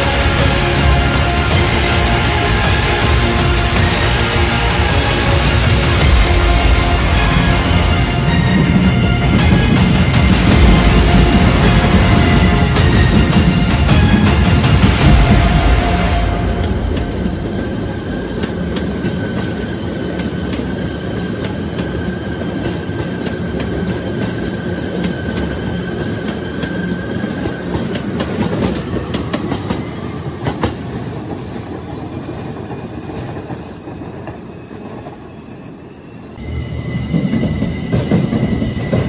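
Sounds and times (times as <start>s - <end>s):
light-rail train rumbling: 0.0s - 39.0s.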